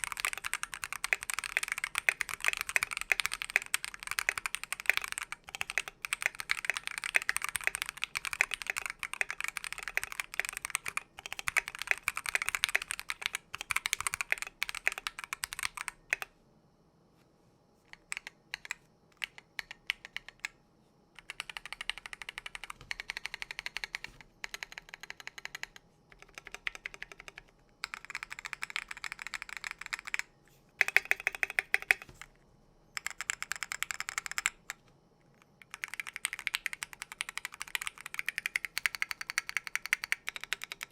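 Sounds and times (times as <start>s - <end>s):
mechanical keyboard typing: 0.0s - 16.3s, 17.9s - 20.6s, 21.2s - 32.3s, 33.0s - 34.8s, 35.4s - 40.9s.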